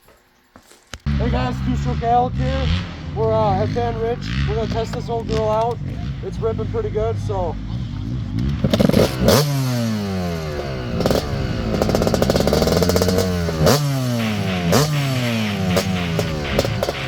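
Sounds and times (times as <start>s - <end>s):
motocross engine revving: 1.0s - 17.0s.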